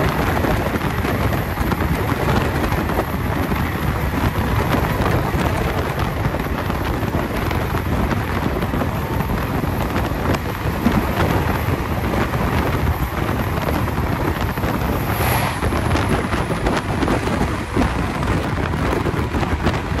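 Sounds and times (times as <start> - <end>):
train rumble: 0.0 - 20.0
wind buffeting microphone: 0.0 - 20.0.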